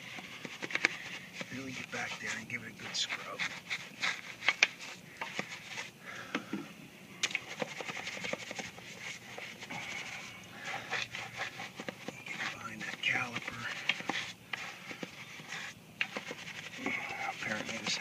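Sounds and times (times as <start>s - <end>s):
brush scrubbing a wheel: 0.0s - 6.0s, 7.3s - 18.0s.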